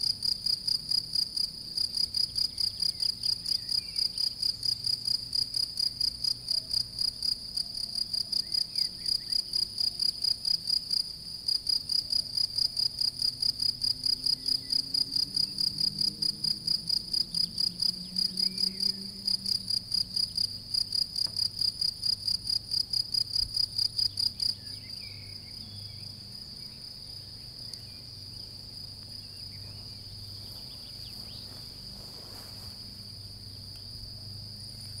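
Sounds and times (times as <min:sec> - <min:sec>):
cricket chirping loudly: 0:00.0 - 0:35.0
distant crickets chorus: 0:00.0 - 0:35.0.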